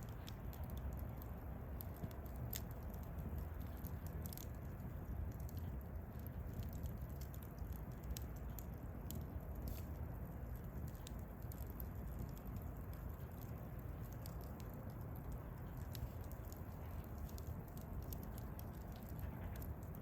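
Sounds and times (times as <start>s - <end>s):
campfire crackling: 0.0s - 20.0s
low rumble of flames: 0.0s - 20.0s.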